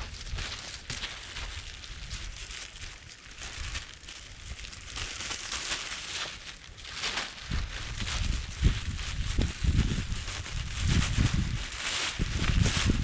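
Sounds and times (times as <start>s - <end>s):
dry rustling and crackling: 0.0s - 13.0s.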